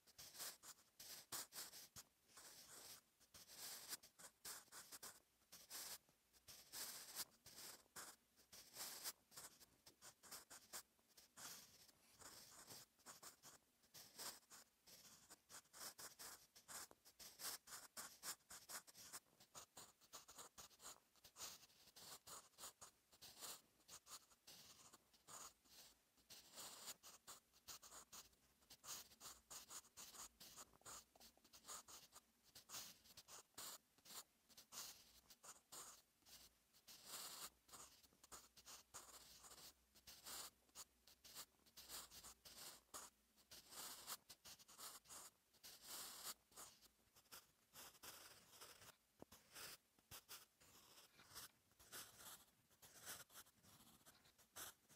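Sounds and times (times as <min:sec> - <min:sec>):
pencil scratching on paper: 0:00.0 - 0:54.9.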